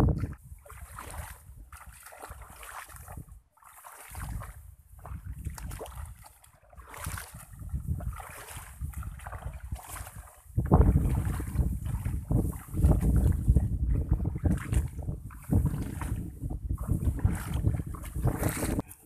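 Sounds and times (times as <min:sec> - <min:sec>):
wind on microphone: 0:00.0 - 0:03.4, 0:04.1 - 0:19.0
footsteps splashing through water: 0:00.0 - 0:19.0.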